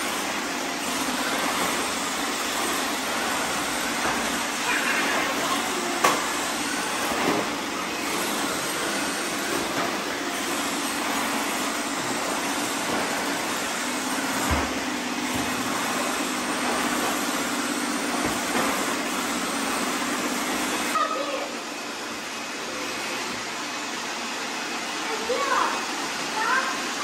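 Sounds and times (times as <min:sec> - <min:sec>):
robot vacuums whirring: 0:00.0 - 0:27.0.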